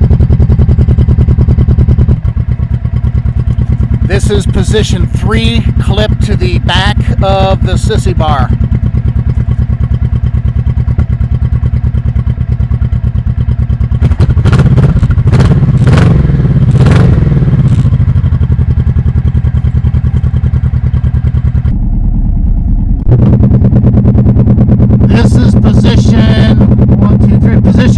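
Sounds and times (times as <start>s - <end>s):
motorcycle engine idling and revving: 0.0s - 27.9s.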